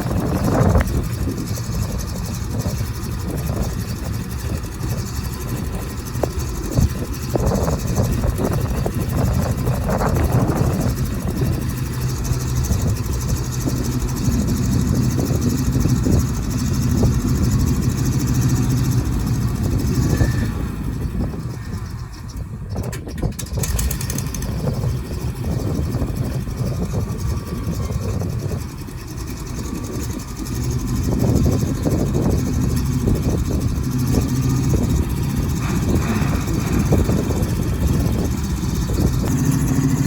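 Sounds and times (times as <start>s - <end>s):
truck engine idling: 0.0s - 40.0s.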